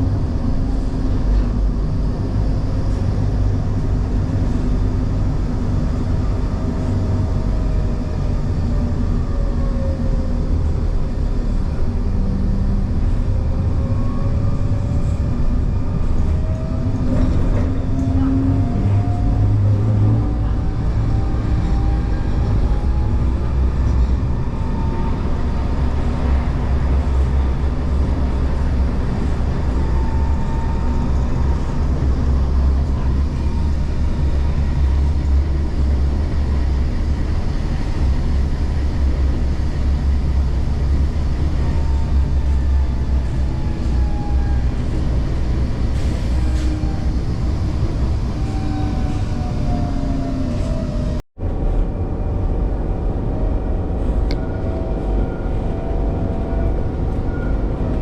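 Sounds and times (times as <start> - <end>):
tram rumbling on tracks: 0.0 - 58.0.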